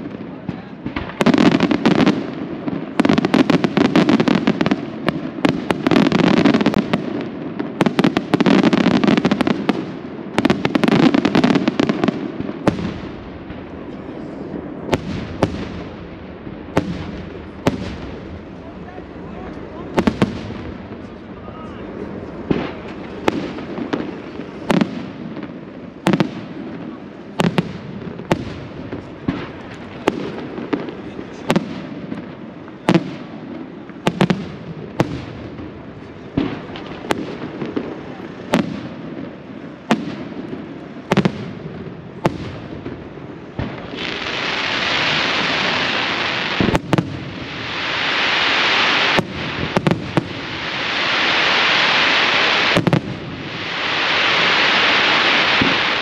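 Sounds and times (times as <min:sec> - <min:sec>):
firework bangs: 0:00.0 - 0:56.0
firework crackling hiss: 0:00.0 - 0:56.0.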